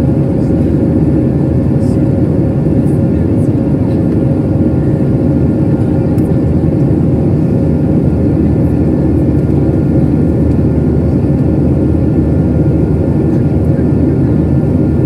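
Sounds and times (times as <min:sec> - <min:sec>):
airflow over fuselage: 0:00.0 - 0:15.0
jet engines roaring in cabin: 0:00.0 - 0:15.0.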